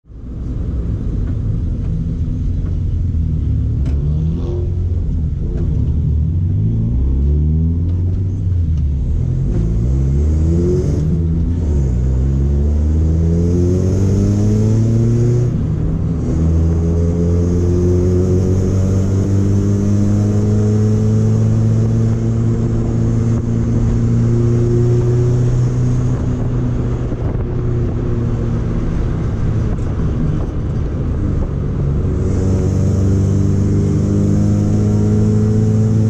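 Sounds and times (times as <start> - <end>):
car engine accelerating: 0.1 - 36.0.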